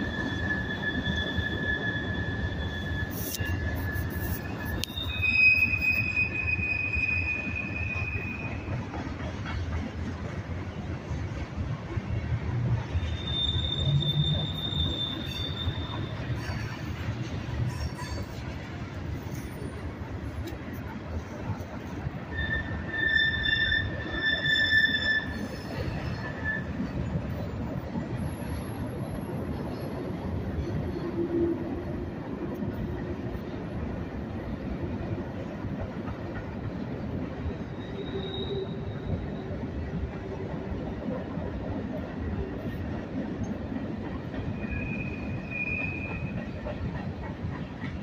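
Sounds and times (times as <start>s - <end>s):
train wheel squeal: 0.0s - 10.1s, 12.1s - 34.0s, 37.3s - 48.0s
freight train cars rumbling: 0.0s - 48.0s.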